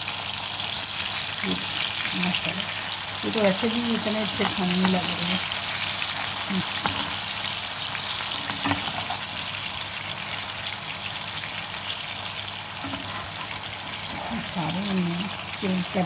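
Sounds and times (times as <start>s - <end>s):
tomato slices sizzling in oil: 0.0s - 16.0s.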